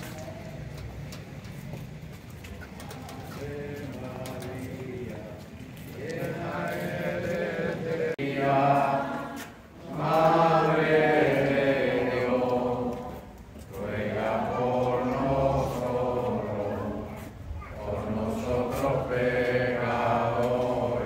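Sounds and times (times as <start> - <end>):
group of voices reciting in unison: 2.8 - 21.0.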